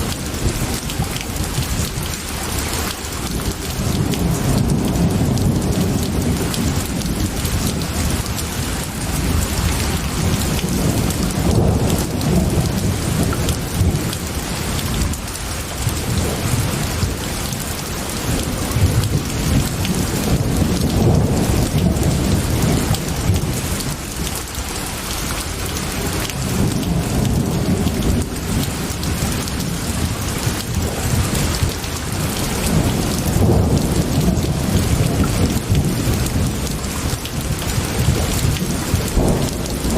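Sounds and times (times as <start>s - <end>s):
heavy rain: 0.0s - 39.9s
rolling thunder rumble: 0.0s - 39.9s.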